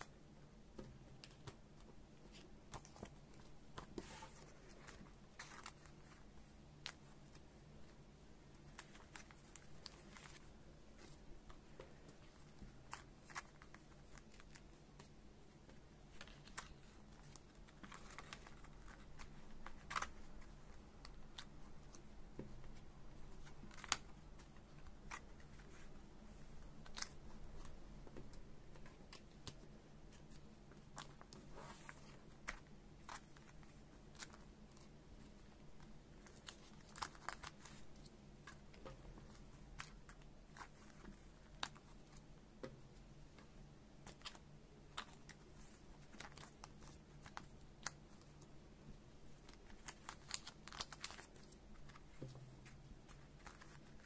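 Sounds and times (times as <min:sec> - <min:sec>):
plastic sleeves crinkling: 0:00.8 - 0:42.7, 0:43.3 - 0:48.5, 0:49.3 - 0:54.0.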